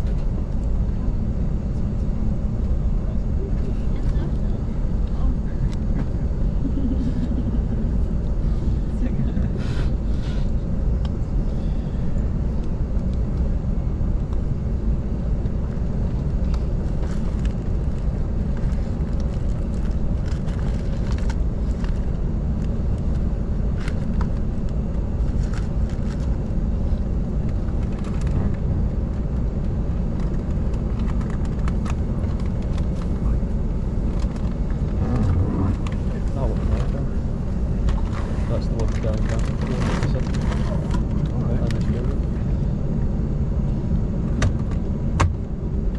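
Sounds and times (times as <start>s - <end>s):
aircraft cabin rumble: 0.0s - 45.9s.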